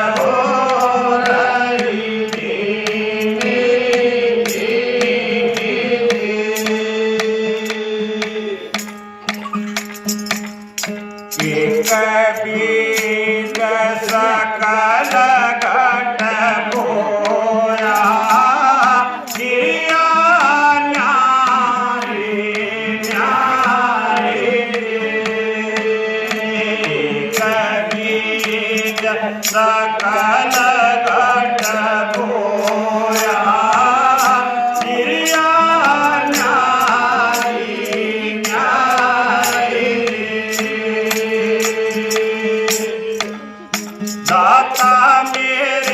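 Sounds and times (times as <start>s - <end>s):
percussion beat: 0.0s - 45.9s
person singing: 0.0s - 45.9s.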